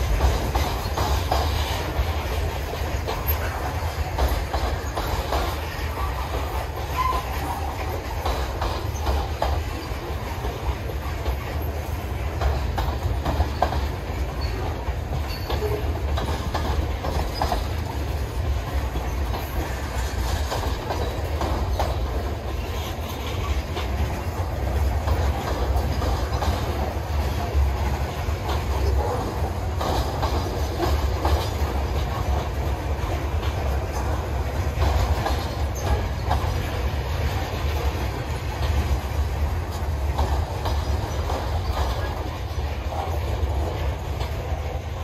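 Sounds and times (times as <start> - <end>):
freight train rumble: 0.0 - 45.0
wheel squeaking on rail: 0.0 - 45.0
wheels clicking over rail joints: 0.0 - 45.0.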